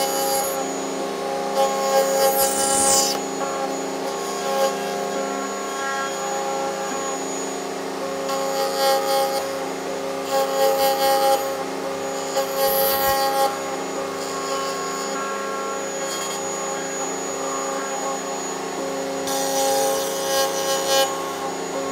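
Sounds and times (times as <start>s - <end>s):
router bit cutting wood: 0.0s - 21.9s
router motor whine: 0.0s - 21.9s.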